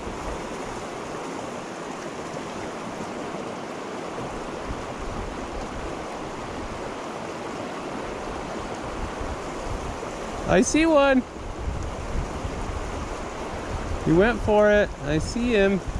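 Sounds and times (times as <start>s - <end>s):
mountain creek rushing: 0.0s - 15.9s.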